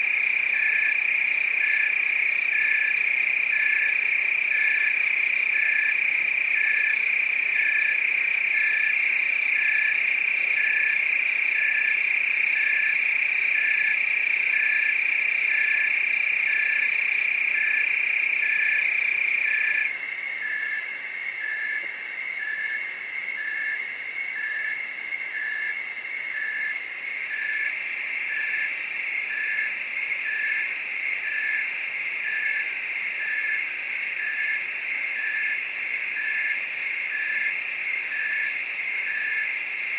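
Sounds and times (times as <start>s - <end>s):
crickets trilling: 0.0s - 39.9s
short cricket chirp: 0.0s - 39.9s.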